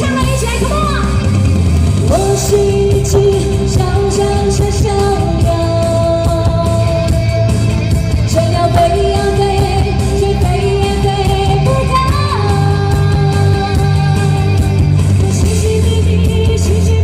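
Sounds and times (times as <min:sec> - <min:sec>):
drum and bass beat: 0:00.0 - 0:17.0
live rock ballad: 0:01.2 - 0:17.0.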